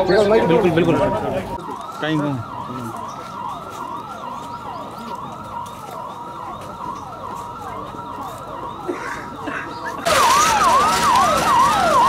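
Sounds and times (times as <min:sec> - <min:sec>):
emergency siren yelping: 0:00.0 - 0:12.0.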